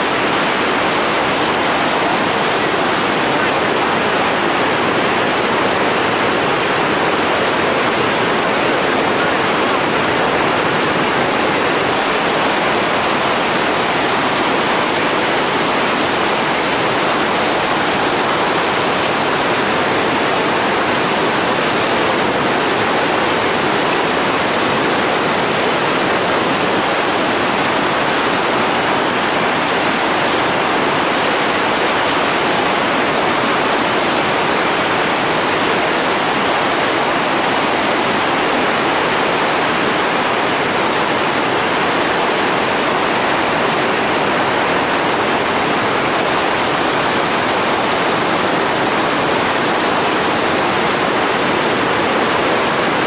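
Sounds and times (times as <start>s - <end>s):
whitewater rapids rushing: 0.0s - 53.0s.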